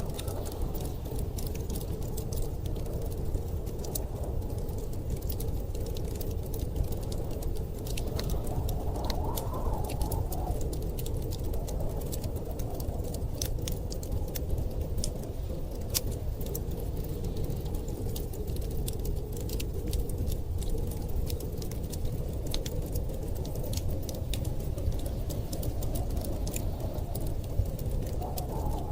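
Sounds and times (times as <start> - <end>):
storm wind rumble: 0.0 - 28.9
wood fire crackling: 0.0 - 28.9.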